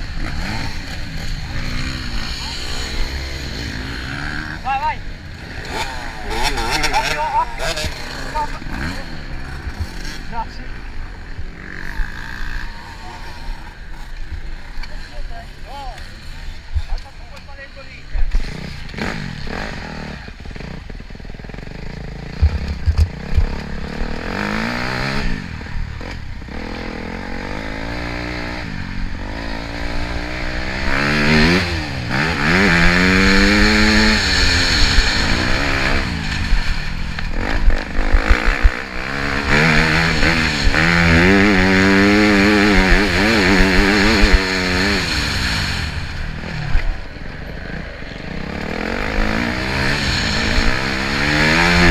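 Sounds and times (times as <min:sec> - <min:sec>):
motorcycle engine accelerating: 0:00.0 - 0:17.0, 0:18.2 - 0:51.9
steady rushing noise: 0:00.0 - 0:51.9.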